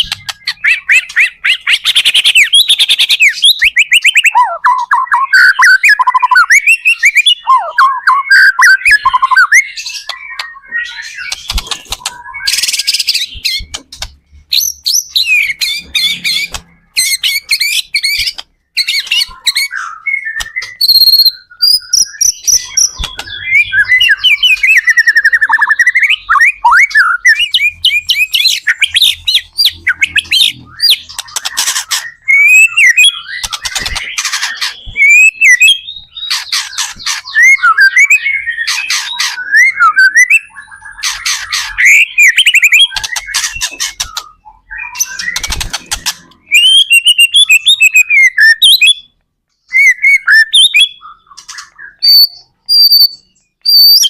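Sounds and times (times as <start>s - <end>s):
songbird whistles and trills: 0.0s - 54.0s.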